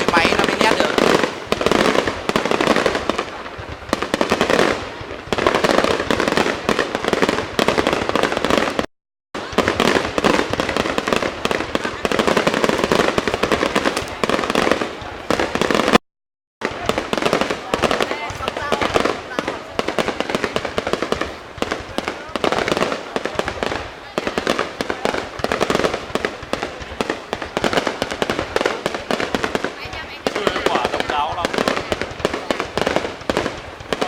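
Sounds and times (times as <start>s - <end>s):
fireworks bangs and crackling: 0.0s - 16.0s, 16.6s - 34.0s.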